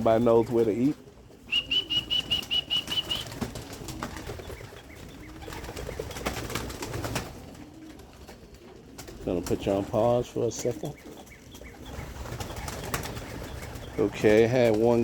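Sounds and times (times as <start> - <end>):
pigeons cooing: 0.0 - 15.0
pigeons flapping wings: 0.0 - 15.0.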